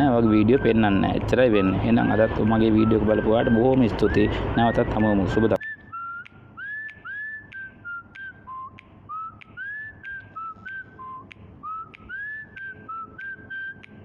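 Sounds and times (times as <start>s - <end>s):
short whistled notes: 0.2s - 14.0s.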